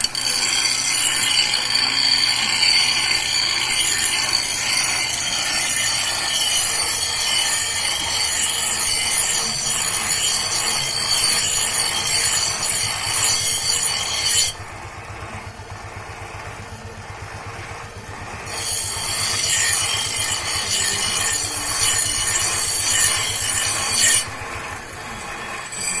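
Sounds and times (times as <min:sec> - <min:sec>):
metal blade scraping on abrasive: 0:00.0 - 0:14.7, 0:18.4 - 0:26.0.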